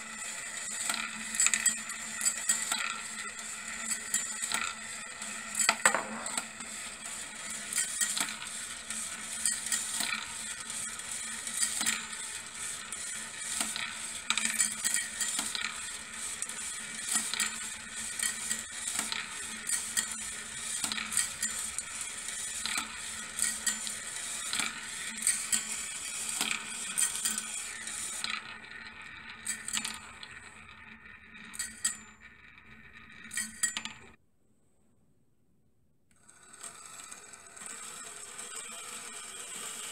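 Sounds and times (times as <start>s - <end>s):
metal balls rolling and clattering: 0.0s - 34.2s, 36.2s - 39.9s
balls clinking in wooden bowl: 0.4s - 34.2s.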